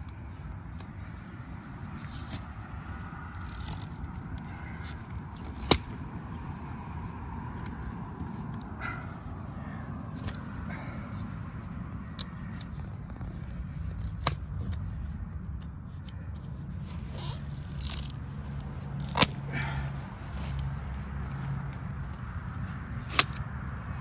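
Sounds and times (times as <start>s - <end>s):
steady low hum: 0.0s - 24.0s
hand tools scraping soil: 0.2s - 15.1s, 16.1s - 23.4s.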